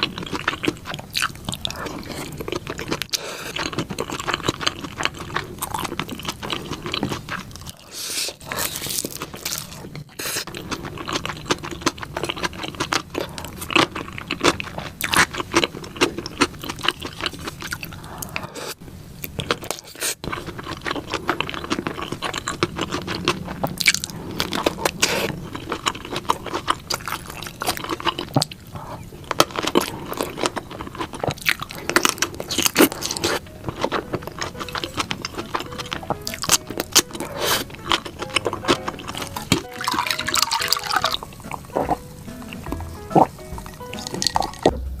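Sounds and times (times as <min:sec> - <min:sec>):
biting and chewing: 0:00.0 - 0:44.8.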